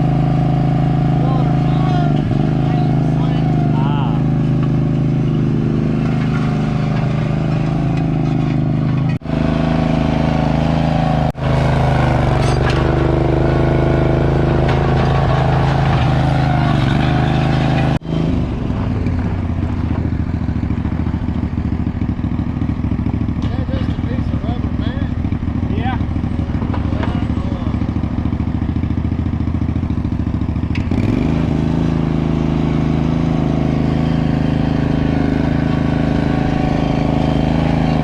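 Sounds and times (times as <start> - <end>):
heavy equipment engine running: 0.0 - 38.0.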